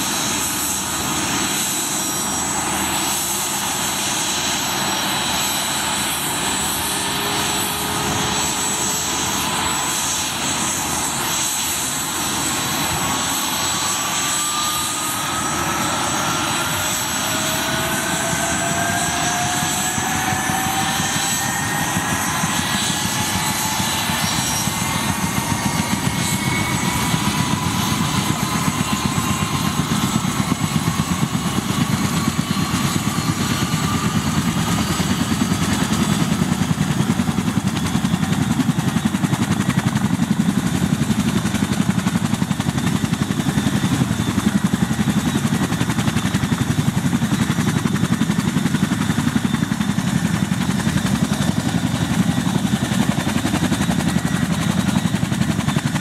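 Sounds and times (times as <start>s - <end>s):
helicopter engines whining: 0.0s - 56.0s.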